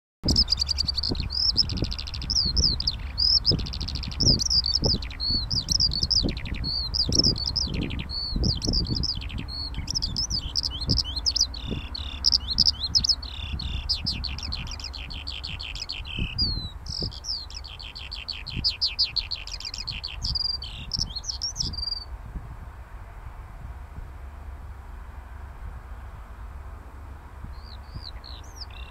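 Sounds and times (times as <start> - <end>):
skylark singing: 0.2 - 22.1, 27.5 - 28.9
gusty low rumble: 0.3 - 28.9.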